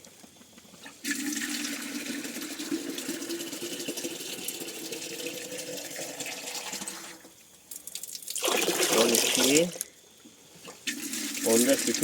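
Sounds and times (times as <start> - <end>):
water pouring into container: 1.0 - 9.8, 10.8 - 12.0.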